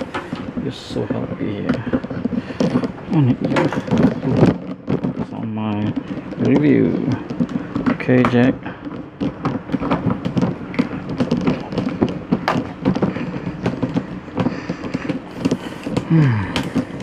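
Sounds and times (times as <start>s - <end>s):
parts knocking and clattering: 0.0s - 17.0s.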